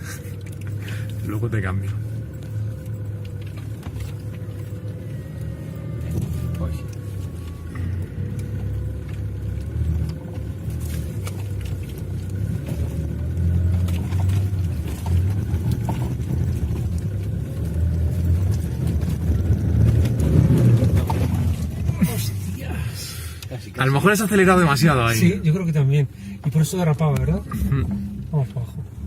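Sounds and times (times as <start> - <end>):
diesel engine working hard: 0.0 - 29.0.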